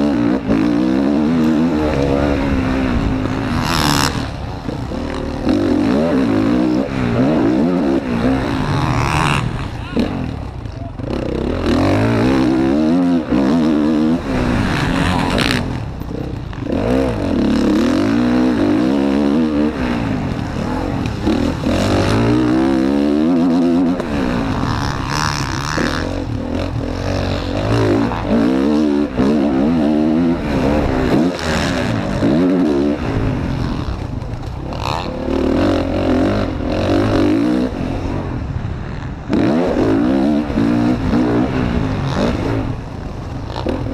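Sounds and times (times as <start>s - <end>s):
motocross bike engine revving: 0.0s - 43.9s
steady rush of noise: 0.0s - 43.9s.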